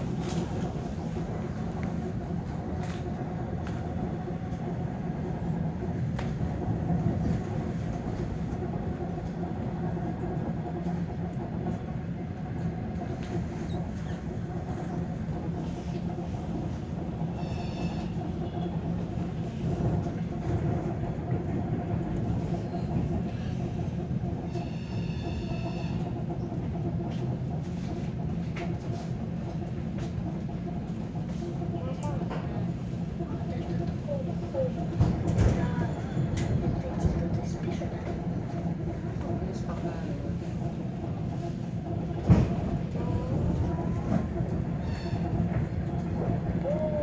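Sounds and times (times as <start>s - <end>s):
electric train rumbling: 0.0s - 47.0s.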